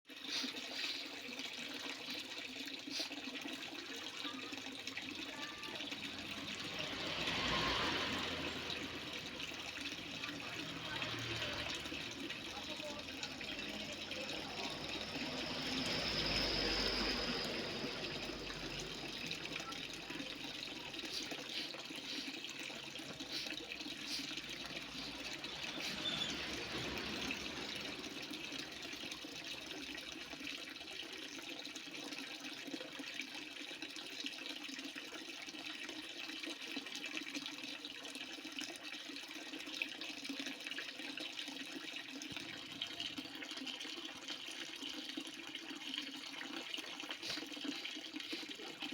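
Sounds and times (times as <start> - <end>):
water pouring and splashing: 0.0 - 48.9.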